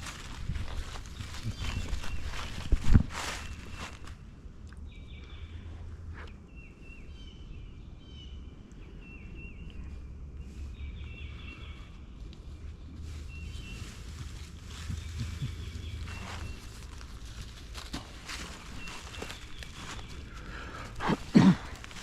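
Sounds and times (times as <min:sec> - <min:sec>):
songbird singing: 0:00.0 - 0:22.0
steady low rumble: 0:00.0 - 0:22.0.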